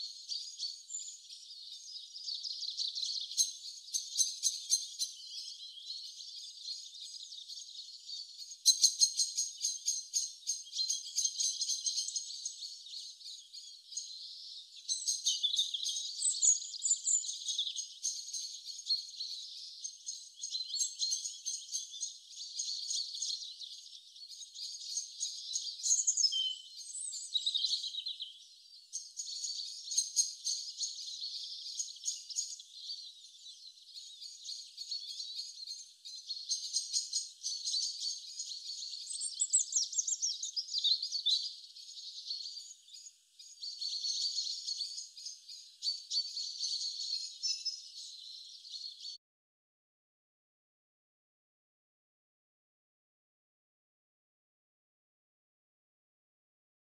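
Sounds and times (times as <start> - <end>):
small birds chirping: 0.0 - 49.2.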